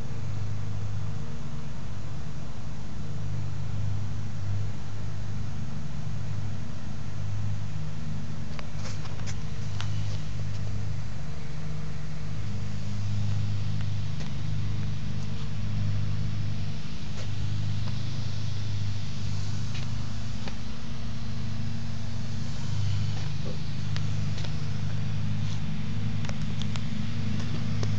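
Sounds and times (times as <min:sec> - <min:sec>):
light hiss: 0:00.0 - 0:27.9
low mechanical hum: 0:00.0 - 0:27.9.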